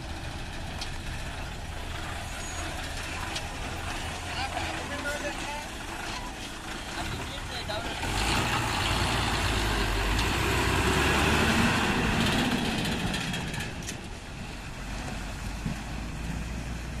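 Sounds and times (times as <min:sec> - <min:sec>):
lorry engine rumbling: 0:00.0 - 0:17.0
tyres on road: 0:00.0 - 0:17.0.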